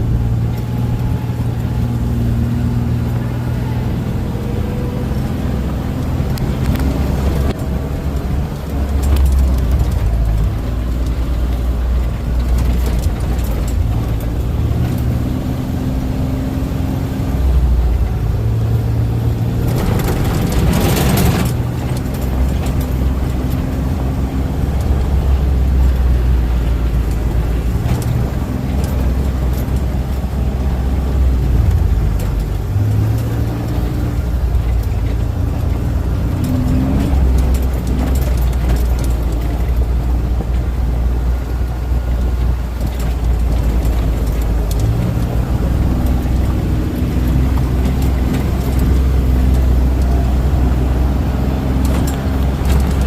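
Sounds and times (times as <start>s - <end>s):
vehicle engine rumbling: 0.0s - 53.0s.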